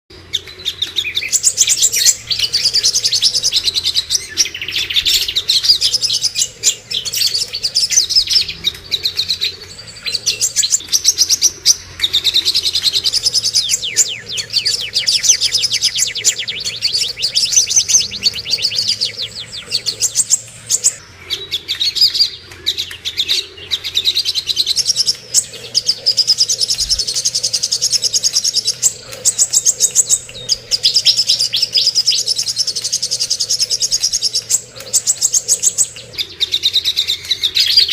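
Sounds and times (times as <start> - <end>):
birdsong with chattering trills: 0.1 - 37.9.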